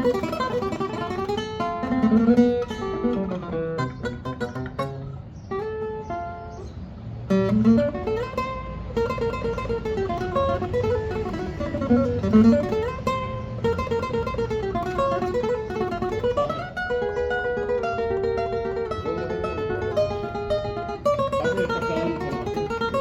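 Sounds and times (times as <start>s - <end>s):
small guitar plucked melody: 0.0s - 23.0s.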